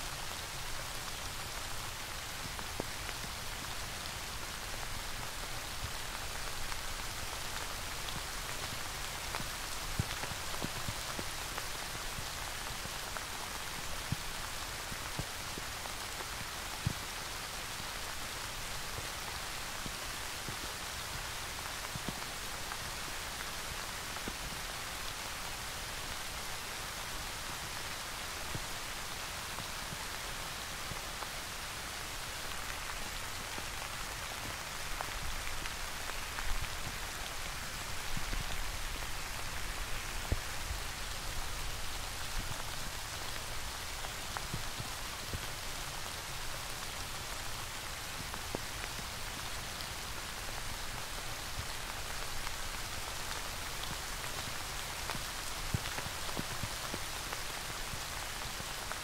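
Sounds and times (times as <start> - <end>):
raindrops striking close by: 0.0 - 59.0
steady rain hiss: 0.0 - 59.0.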